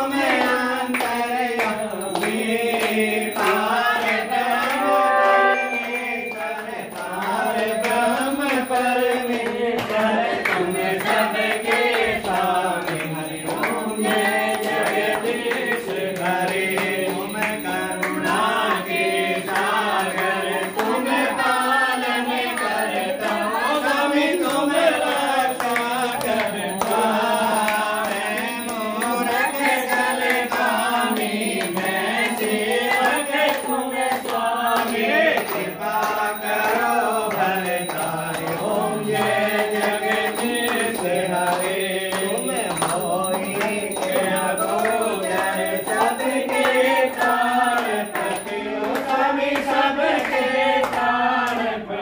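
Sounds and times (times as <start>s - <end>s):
voices singing a devotional hymn: 0.0s - 52.0s.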